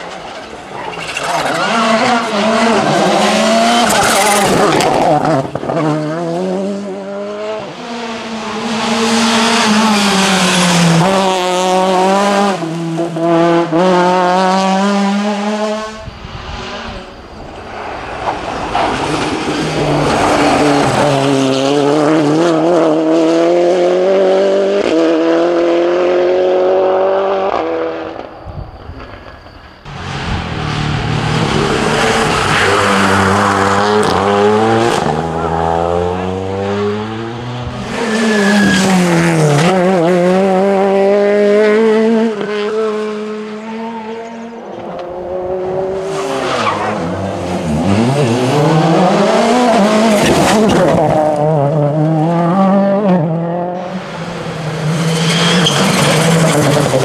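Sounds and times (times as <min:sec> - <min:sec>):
rally car engines revving: 0:00.0 - 0:28.5, 0:29.8 - 0:57.0.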